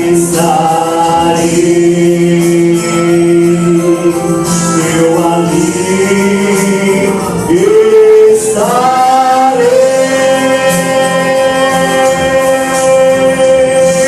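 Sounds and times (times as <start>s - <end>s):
gospel vocal group singing: 0.0s - 14.0s
instrumental backing: 0.0s - 14.0s.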